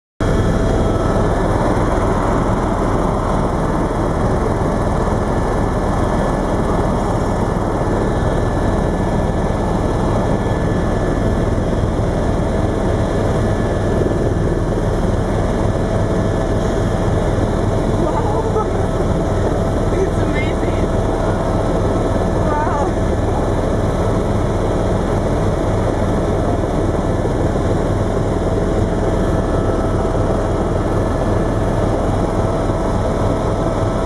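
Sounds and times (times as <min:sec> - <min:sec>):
helicopter rotor and engine: 0:00.2 - 0:34.0.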